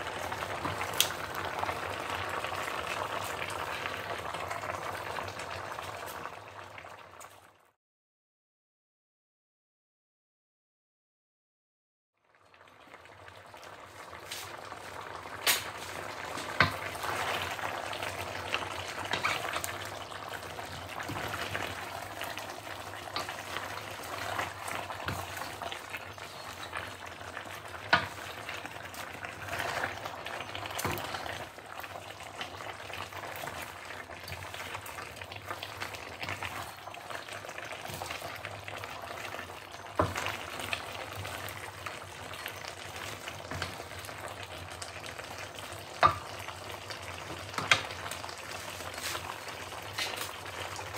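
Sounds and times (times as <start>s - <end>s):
food sizzling in a wok: 0.0s - 7.6s, 12.2s - 50.9s.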